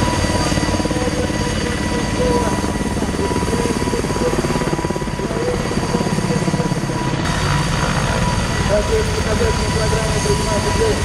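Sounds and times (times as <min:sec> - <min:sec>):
helicopter rotor chop: 0:00.0 - 0:11.0
turbine engine whine: 0:00.0 - 0:11.0.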